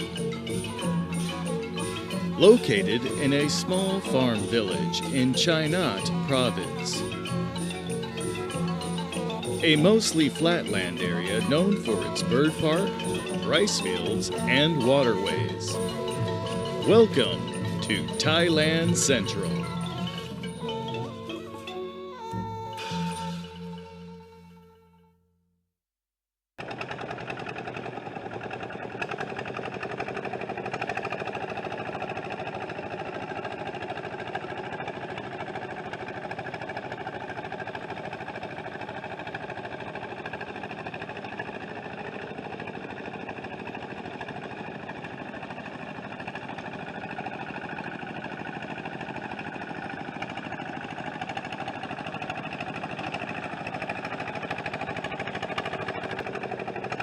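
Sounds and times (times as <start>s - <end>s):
engine running steadily: 0.0s - 24.2s, 26.6s - 57.0s.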